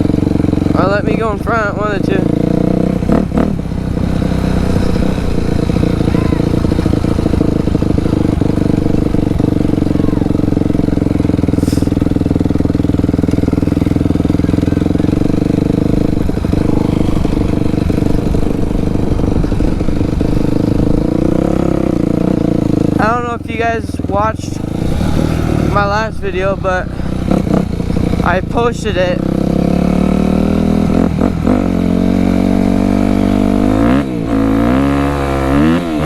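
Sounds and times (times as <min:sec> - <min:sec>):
dirt bike engine running: 0:00.0 - 0:36.0.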